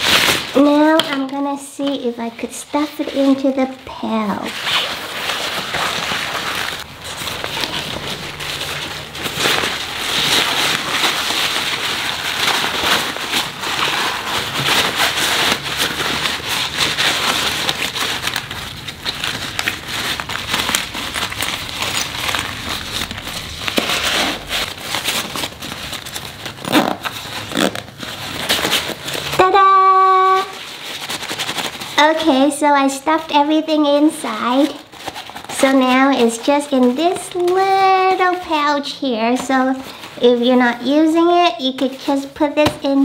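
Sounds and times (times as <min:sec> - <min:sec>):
synthetic fabric crinkling: 0:00.0 - 0:43.0.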